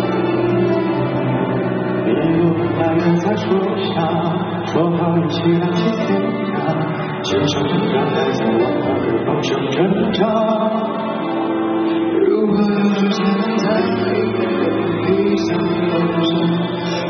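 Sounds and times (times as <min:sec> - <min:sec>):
live band accompaniment: 0:00.0 - 0:17.0
men singing pop duet: 0:02.1 - 0:11.3, 0:12.0 - 0:17.0.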